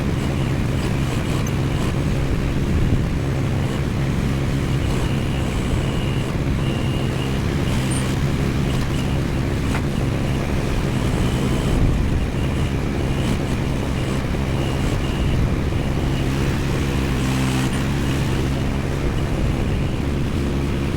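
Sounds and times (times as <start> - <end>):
mini excavator engine running: 0.0 - 20.9.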